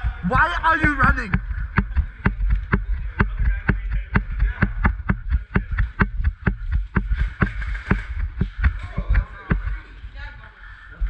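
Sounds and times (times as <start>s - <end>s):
footsteps jogging on concrete: 0.0s - 9.8s.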